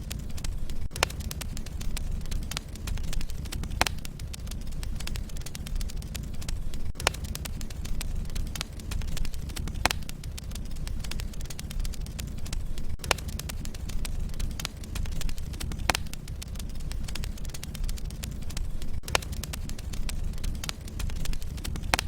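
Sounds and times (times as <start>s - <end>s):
logs crackling in fire: 0.0s - 22.0s
low fire rumble: 0.0s - 22.0s
sharp pops: 0.1s - 22.0s.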